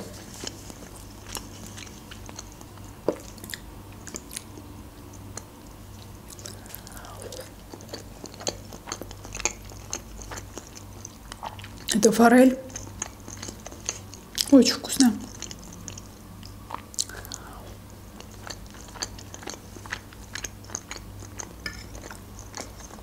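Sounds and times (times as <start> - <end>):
person chewing: 0.0 - 12.0, 12.6 - 23.0.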